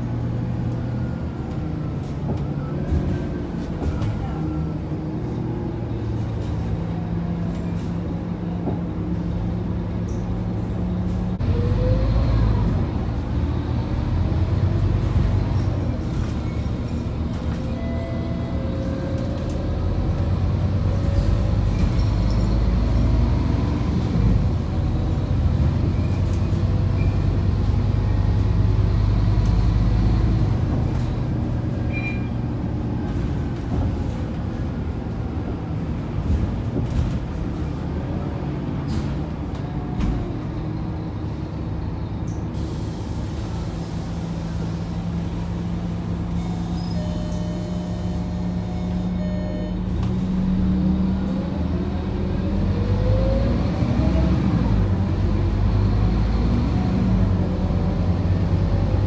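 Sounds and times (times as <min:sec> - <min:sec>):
bus diesel engine from inside: 0:00.0 - 0:59.0.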